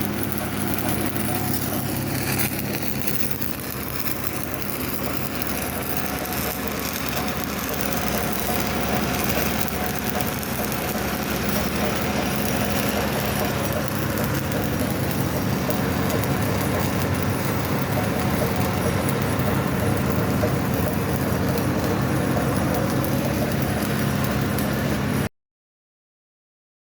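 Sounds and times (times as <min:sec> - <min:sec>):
welding arc crackling: 0:00.0 - 0:25.3.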